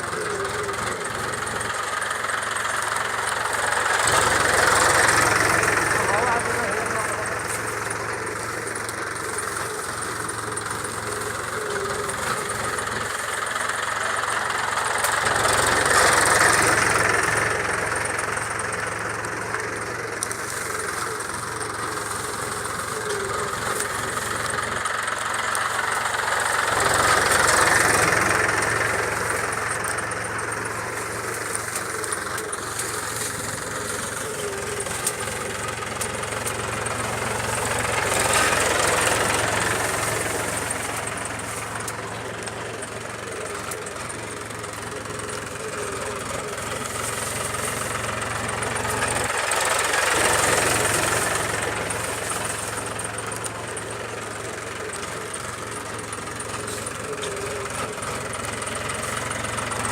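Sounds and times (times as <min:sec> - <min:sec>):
tractor engine humming: 0:00.0 - 0:59.9.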